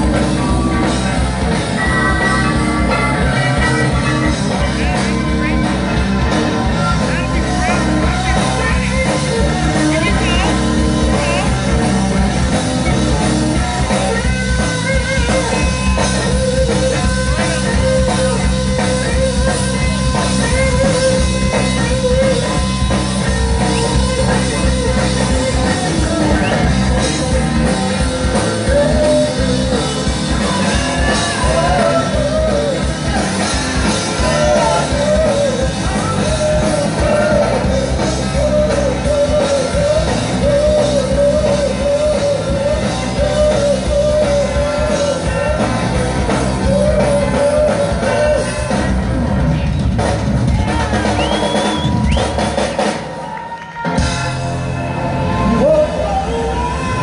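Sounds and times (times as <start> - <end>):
person singing: 0.0 - 48.8, 55.4 - 57.0
live rock band playing: 0.0 - 57.0.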